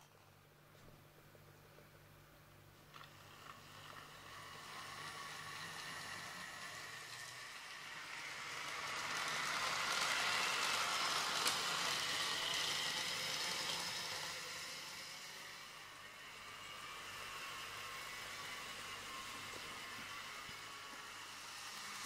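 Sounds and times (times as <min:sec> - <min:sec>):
model train wheels on rails: 0:01.7 - 0:22.0
electric motor whine: 0:03.1 - 0:22.0.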